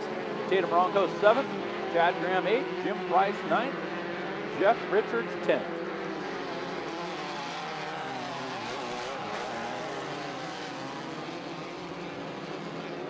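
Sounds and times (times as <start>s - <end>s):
off-road buggy engines revving: 0.0s - 13.0s.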